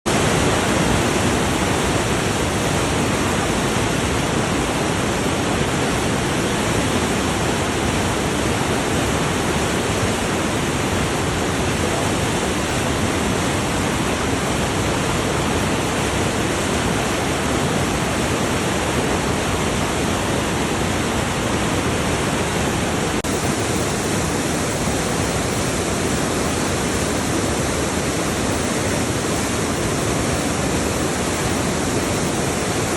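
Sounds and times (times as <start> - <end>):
waterfall roaring: 0.1 - 32.9.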